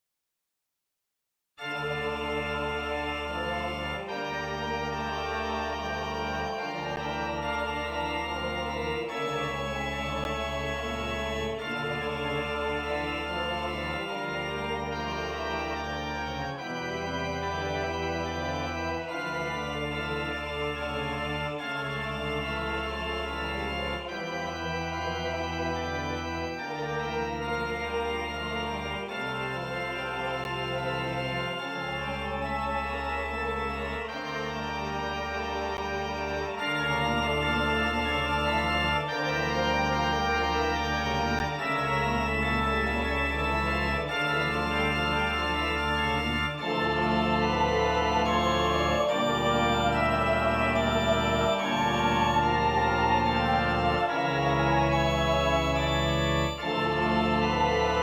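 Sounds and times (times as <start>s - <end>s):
organ playing sustained chords: 1.6s - 58.0s.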